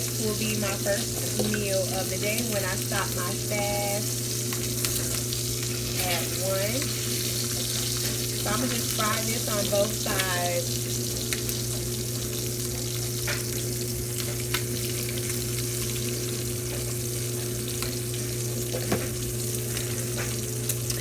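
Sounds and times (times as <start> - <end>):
ham sizzling in a pan: 0.0 - 21.0
steady low hum: 0.0 - 21.0.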